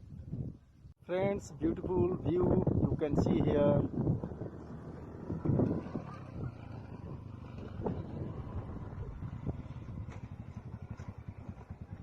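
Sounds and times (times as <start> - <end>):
vehicle engine rumbling: 1.4 - 12.0.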